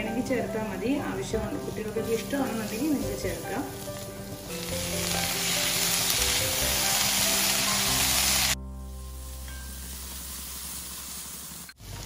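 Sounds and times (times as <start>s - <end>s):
background music: 0.0s - 11.3s
food sizzling in a wok: 0.0s - 12.0s.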